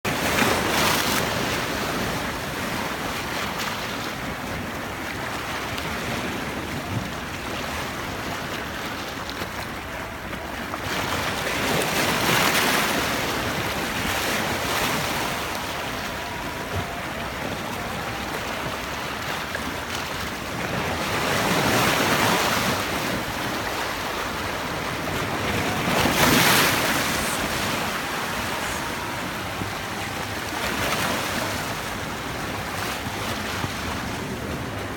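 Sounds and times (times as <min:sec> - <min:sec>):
sea waves washing onto shore: 0:00.0 - 0:34.9.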